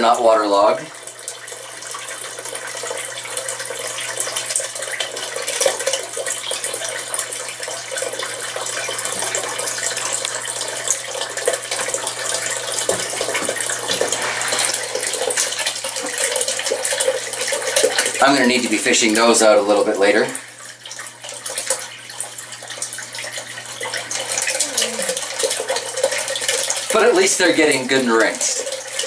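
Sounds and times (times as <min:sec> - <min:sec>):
water trickling and splashing: 0:00.0 - 0:29.0
submerged pump humming: 0:03.4 - 0:28.1.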